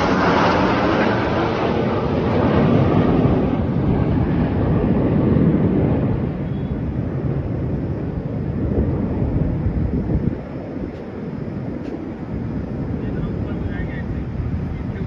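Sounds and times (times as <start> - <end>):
jet engine rumbling: 0.0 - 15.0.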